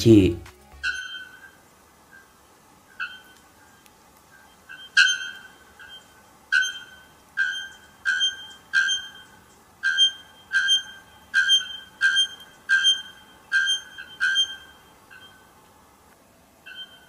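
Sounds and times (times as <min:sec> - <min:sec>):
bellbird ringing metallic calls: 0:00.8 - 0:15.5, 0:16.6 - 0:17.0.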